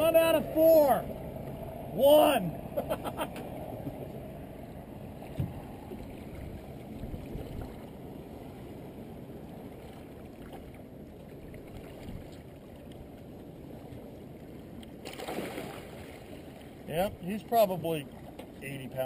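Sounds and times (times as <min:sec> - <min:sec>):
water and wind rushing: 0:00.0 - 0:19.0.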